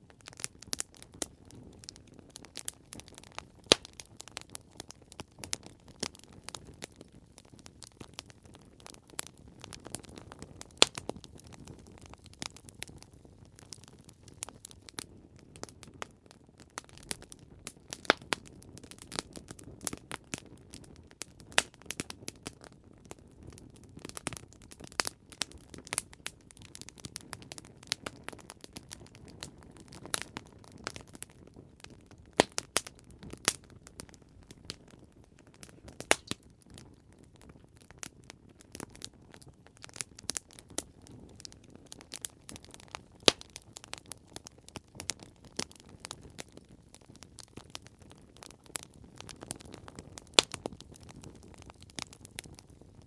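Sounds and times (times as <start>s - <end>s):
campfire crackling and popping: 0.0s - 53.0s
low rumble of flames: 0.0s - 53.0s.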